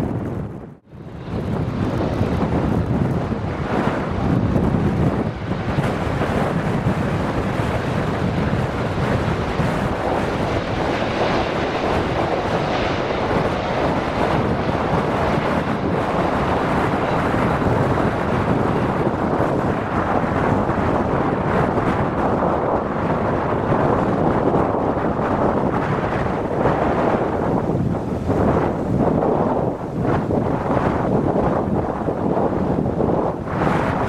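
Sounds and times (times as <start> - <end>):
jet airliner engine: 0.0 - 34.0
wind buffeting microphone: 0.0 - 34.0.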